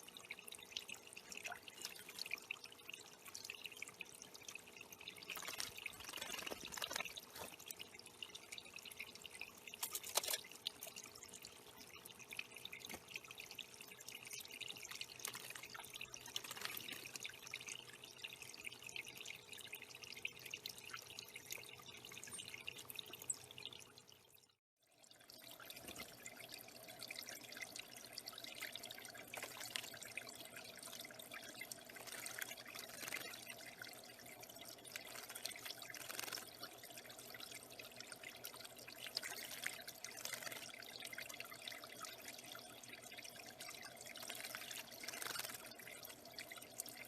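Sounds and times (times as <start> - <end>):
water trickling and dripping: 0.0 - 47.0
water splashes: 0.6 - 18.8, 25.3 - 47.0.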